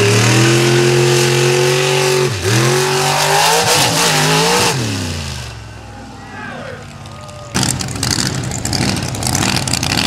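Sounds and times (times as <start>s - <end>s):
truck engine running hard: 0.0s - 6.2s, 7.4s - 10.0s.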